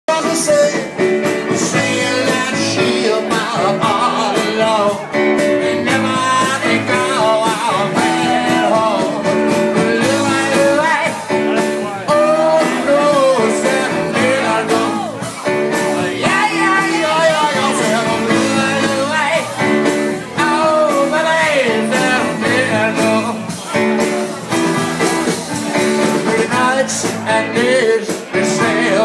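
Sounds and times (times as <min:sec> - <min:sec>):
man singing: 0:00.0 - 0:29.0
live rock band playing: 0:00.1 - 0:29.0.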